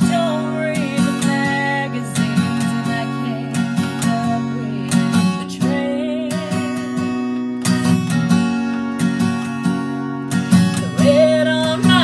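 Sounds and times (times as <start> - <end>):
acoustic guitar strumming: 0.0 - 12.0
woman singing country song: 0.0 - 12.0.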